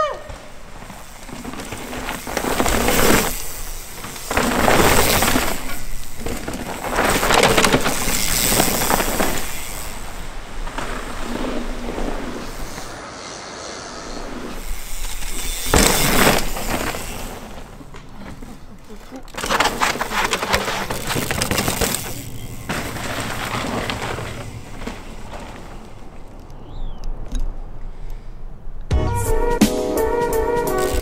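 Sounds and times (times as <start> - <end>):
bike tyres skidding on dirt: 0.0 - 27.0, 30.4 - 31.0.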